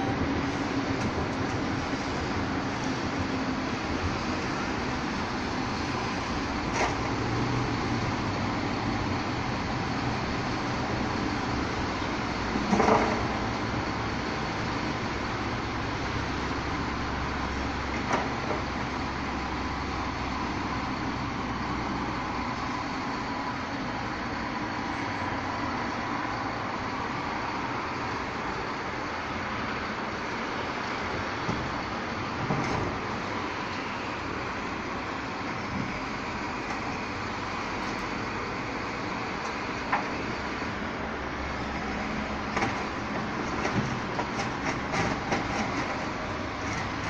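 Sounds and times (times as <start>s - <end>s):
garbage truck running: 0.0s - 47.0s.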